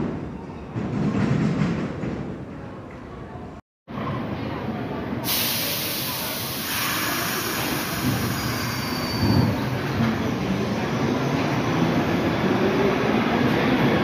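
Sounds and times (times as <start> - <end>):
subway train rumbling on rails: 0.0 - 14.0.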